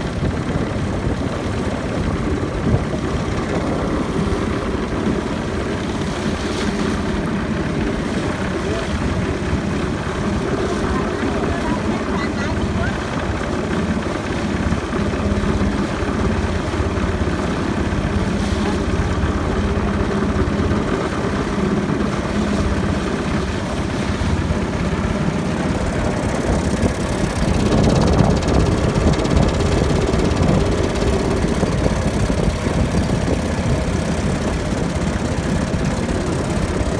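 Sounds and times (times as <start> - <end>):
boat engine running: 0.0 - 36.9.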